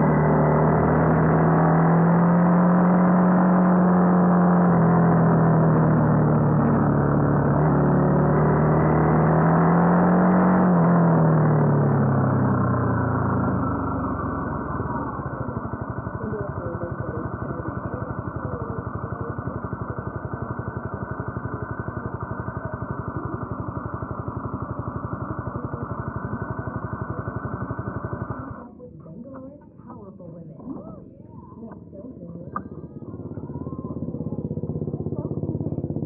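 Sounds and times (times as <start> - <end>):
motorcycle engine idling: 4.5 - 8.2, 10.8 - 36.0.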